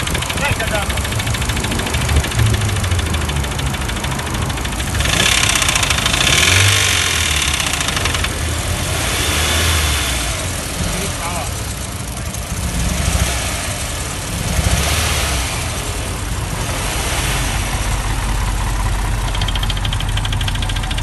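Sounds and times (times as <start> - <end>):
car engine knocking: 0.0 - 21.0
engine revving: 0.0 - 21.0.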